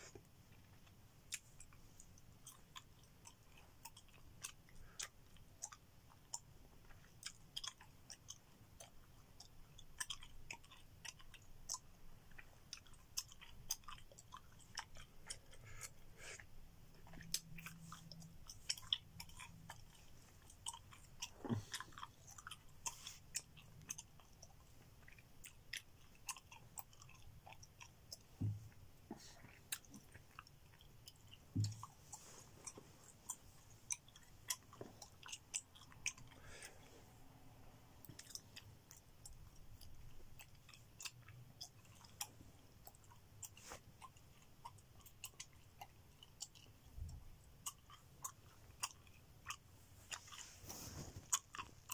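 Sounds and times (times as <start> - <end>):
gum chewing mouth clicks: 0.0 - 37.3, 38.0 - 51.9.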